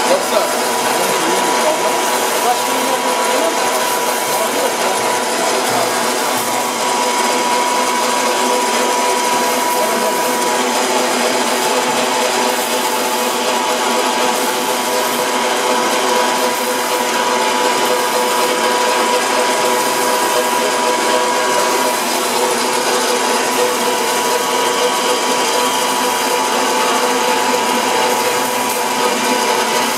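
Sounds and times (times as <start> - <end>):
machine whine over grinding hiss: 0.0 - 29.9.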